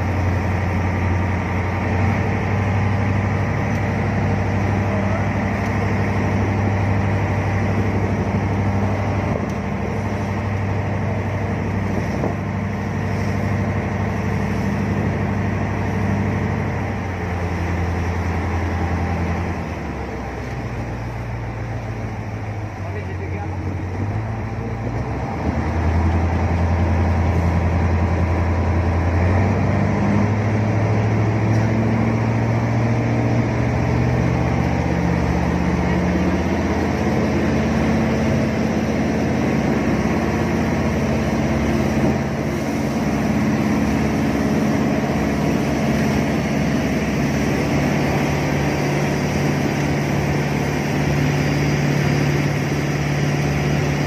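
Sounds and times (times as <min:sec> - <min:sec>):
jet boat engine running hard: 0:00.0 - 0:54.0.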